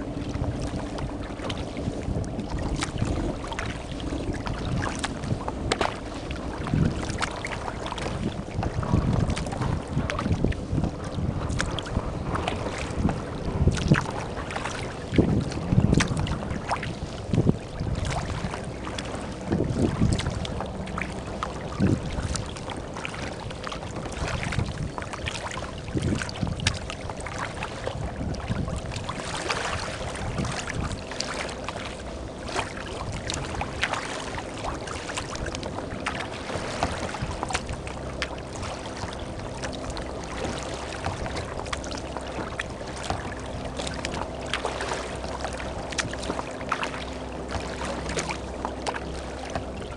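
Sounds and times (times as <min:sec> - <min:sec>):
water splashing against hull: 0:00.0 - 0:49.9
wind buffeting microphone: 0:00.0 - 0:49.9.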